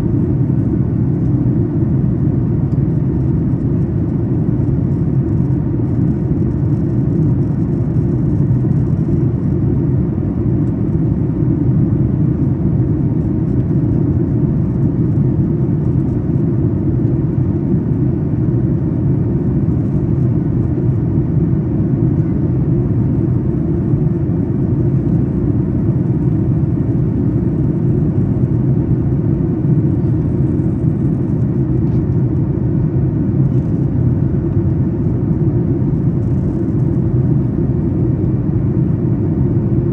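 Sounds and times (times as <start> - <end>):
airflow over fuselage: 0.0 - 39.9
faint steady hum: 0.0 - 39.9
jet engine rumble in cabin: 0.0 - 39.9.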